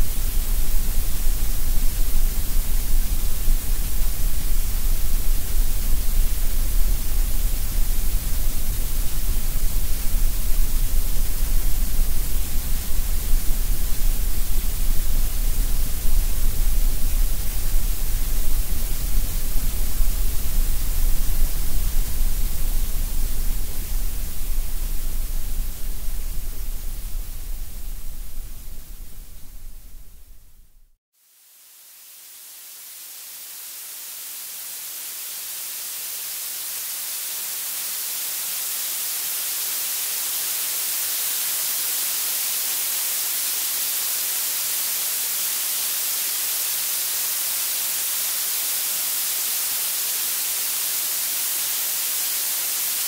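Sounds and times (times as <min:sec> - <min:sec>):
synthetic noise hiss: 0:00.0 - 0:53.0.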